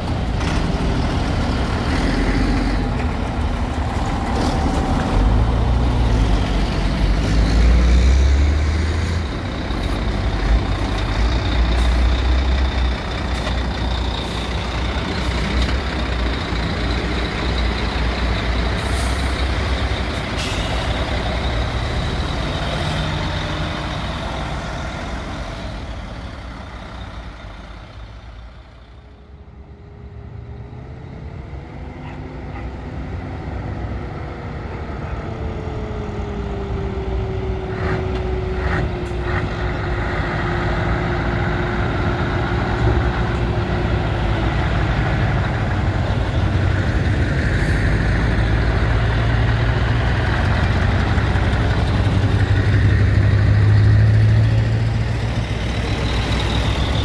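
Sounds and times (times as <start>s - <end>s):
lorry diesel engine rumbling: 0.0s - 57.0s.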